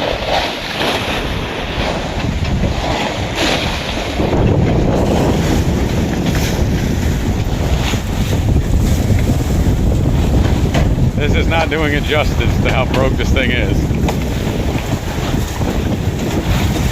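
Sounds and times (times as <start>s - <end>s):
waves washing against dock: 0.0s - 16.9s
wind buffeting microphone: 0.0s - 16.9s.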